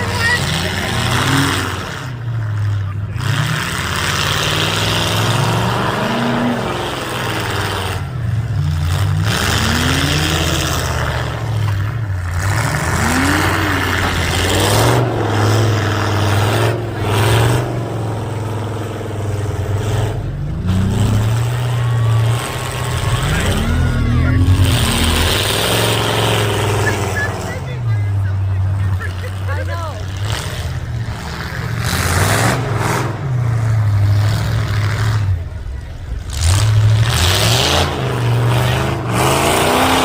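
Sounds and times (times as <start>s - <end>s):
car engine revving: 0.0s - 40.0s
drone of car engines: 0.0s - 40.0s.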